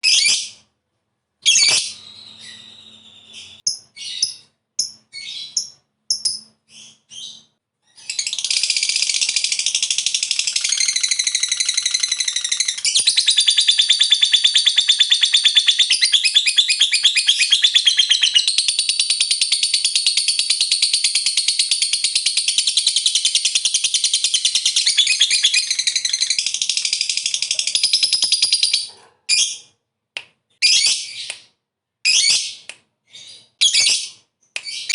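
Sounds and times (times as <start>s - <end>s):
bird chirping: 1.4s - 29.8s, 30.5s - 34.9s.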